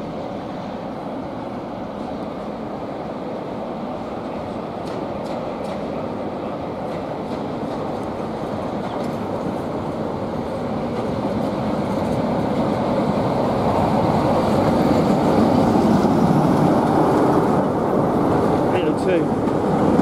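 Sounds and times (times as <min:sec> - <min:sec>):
diesel locomotive engine: 0:00.0 - 0:20.0
train wheels on rails: 0:00.0 - 0:20.0.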